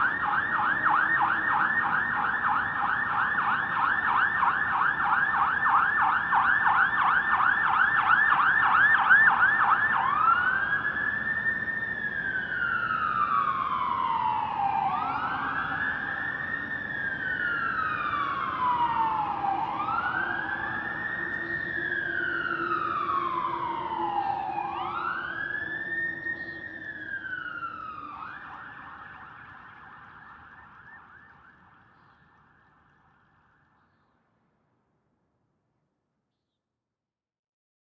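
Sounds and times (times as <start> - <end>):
electronic emergency siren: 0.0 - 33.8.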